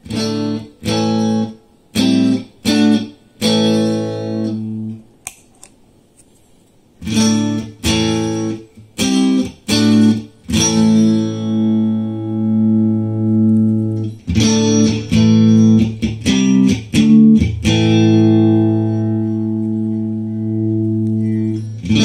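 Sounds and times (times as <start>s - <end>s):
electric guitar strummed chords: 0.0s - 5.0s, 7.0s - 22.0s.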